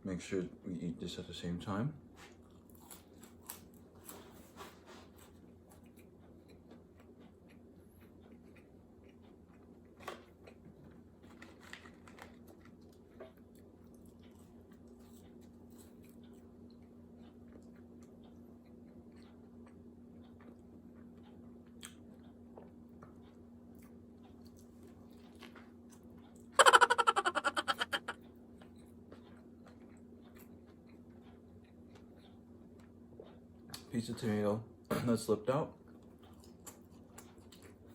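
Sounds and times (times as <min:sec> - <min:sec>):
person chewing food: 0:02.2 - 0:33.8, 0:35.8 - 0:37.9.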